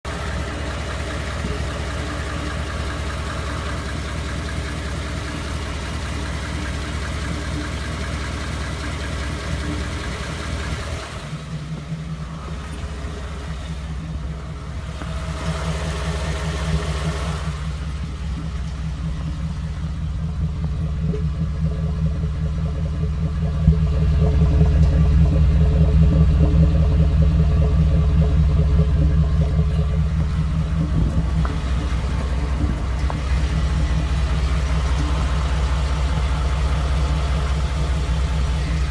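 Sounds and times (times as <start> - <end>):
car engine idling roughly: 0.0 - 38.9
engine ticking: 0.0 - 38.9.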